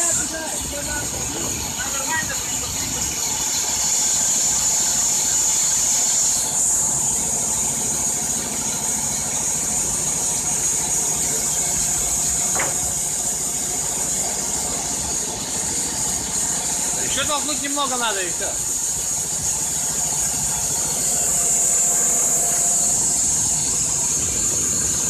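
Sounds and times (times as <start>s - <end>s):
constant high hiss: 0.0s - 25.0s
petrol engine idling: 0.0s - 25.0s.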